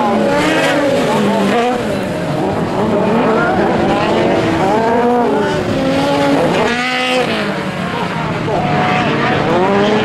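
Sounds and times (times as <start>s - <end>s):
racing buggy engines revving: 0.0s - 10.0s.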